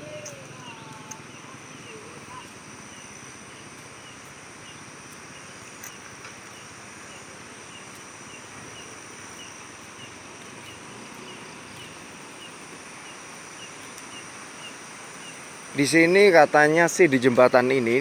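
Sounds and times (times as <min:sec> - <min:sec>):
insects shrilling and chirping: 0:00.0 - 0:18.0
low outdoor hiss: 0:00.0 - 0:18.0.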